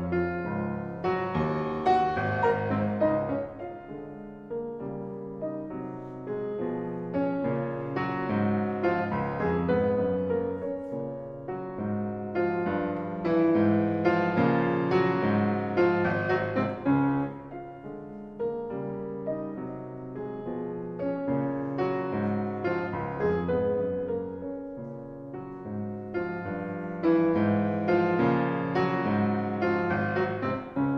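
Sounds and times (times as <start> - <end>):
solo piano music: 0.0 - 30.9.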